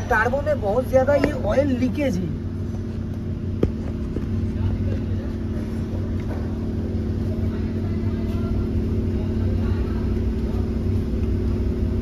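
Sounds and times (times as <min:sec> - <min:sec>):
diesel car engine idling: 0:00.0 - 0:12.0.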